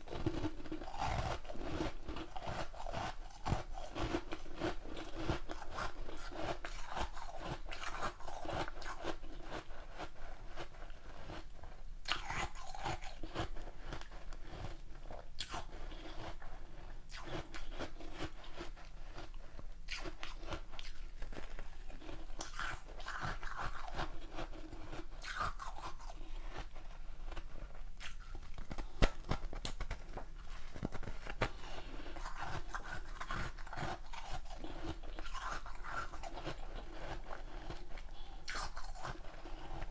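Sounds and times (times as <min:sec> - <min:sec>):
chewing ice: 0:00.1 - 0:39.9.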